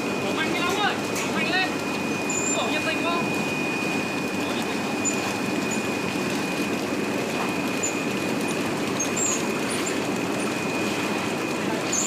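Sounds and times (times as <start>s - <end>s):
high-pitched machine whine: 0.0s - 12.0s
processing machinery running: 0.0s - 12.0s.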